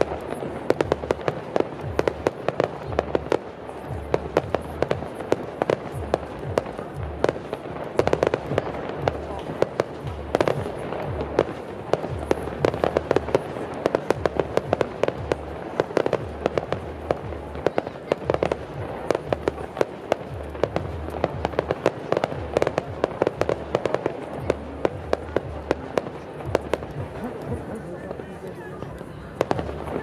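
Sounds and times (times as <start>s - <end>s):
fireworks cracking and popping: 0.0s - 30.0s.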